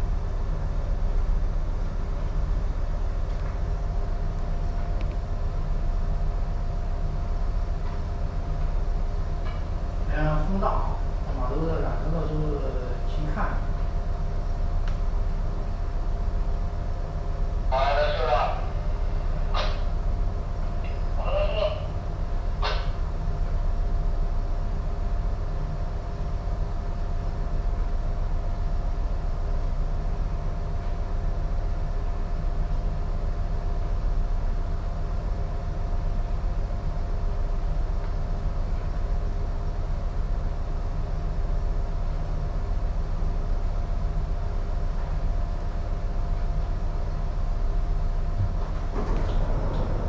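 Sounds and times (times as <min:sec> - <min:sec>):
faint constant hum: 0:00.0 - 0:50.0
ship low rumble: 0:00.0 - 0:50.0.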